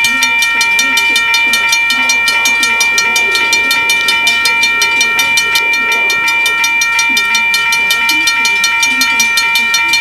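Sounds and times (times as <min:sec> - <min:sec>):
level-crossing warning bell: 0:00.0 - 0:10.0
steady ringing tone: 0:00.0 - 0:10.0.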